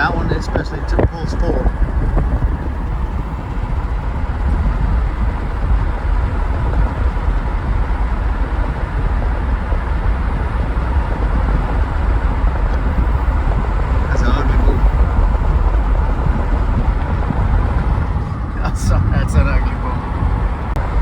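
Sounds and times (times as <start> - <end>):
moving vehicle rumble: 0.0 - 21.0.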